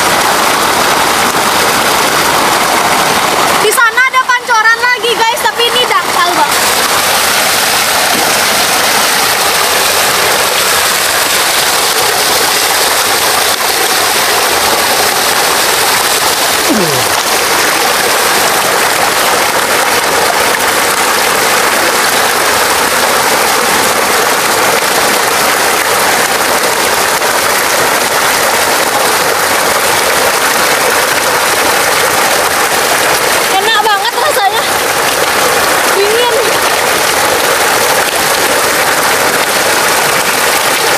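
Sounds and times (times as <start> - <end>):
water pouring into pool: 0.0 - 40.9.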